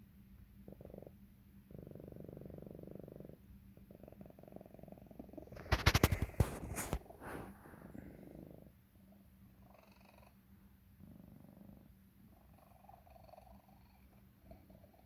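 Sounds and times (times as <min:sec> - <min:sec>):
cat purring: 0:00.4 - 0:15.0.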